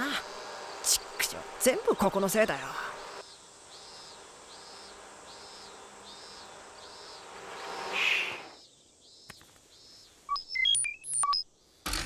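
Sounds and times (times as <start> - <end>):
cicadas calling: 0.0 - 11.1.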